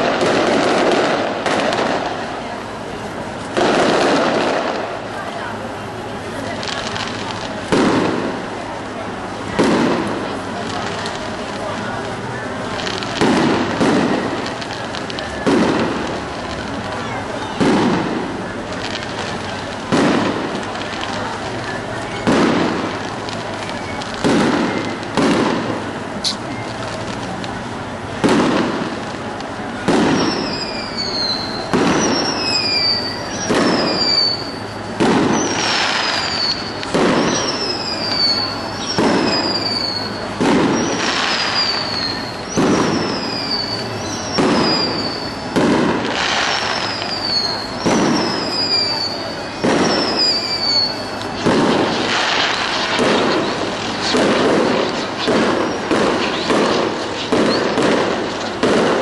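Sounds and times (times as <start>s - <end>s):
fireworks shells bursting: 0.0s - 5.4s, 6.3s - 59.0s
falling whistle of fireworks: 0.0s - 59.0s.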